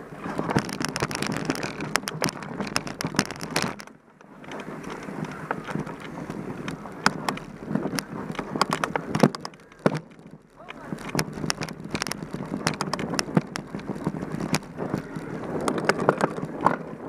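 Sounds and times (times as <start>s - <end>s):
bike rattling and knocking: 0.0s - 17.0s
bike tyres on dirt: 0.0s - 17.0s
wind buffeting microphone: 0.0s - 17.0s.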